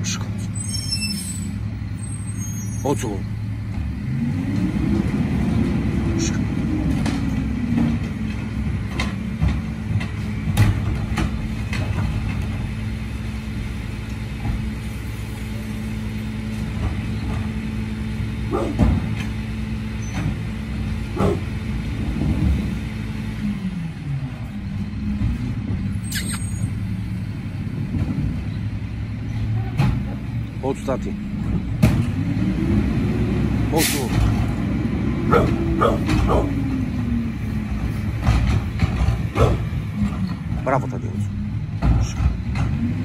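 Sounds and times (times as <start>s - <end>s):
truck engine running: 0.0s - 43.0s.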